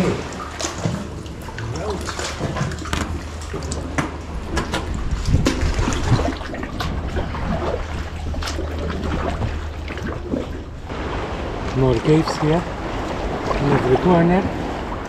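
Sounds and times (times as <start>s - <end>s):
splashes and drips: 0.0s - 15.0s
water lapping against rocks: 0.0s - 15.0s.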